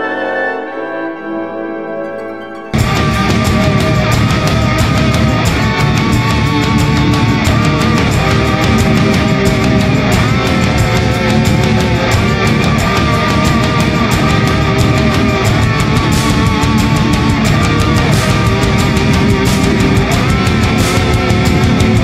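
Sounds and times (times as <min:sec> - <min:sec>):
distorted electric guitar: 0:02.1 - 0:22.0
driving drum beat: 0:02.8 - 0:22.0.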